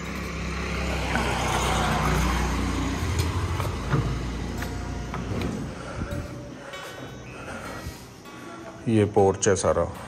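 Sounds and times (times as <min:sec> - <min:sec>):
motor vehicle passing: 0:00.0 - 0:08.6.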